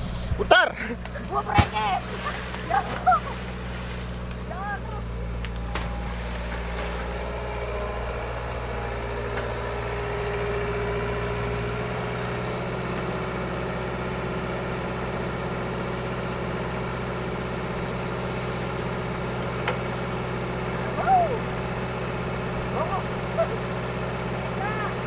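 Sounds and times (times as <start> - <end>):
excavator diesel engine humming: 0.0 - 25.0.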